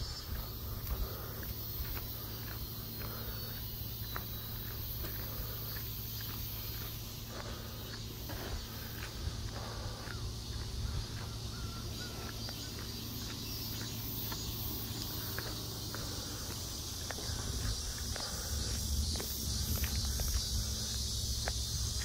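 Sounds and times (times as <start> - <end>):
footsteps on earth path: 0.0 - 22.0
insects buzzing drone: 0.0 - 22.0.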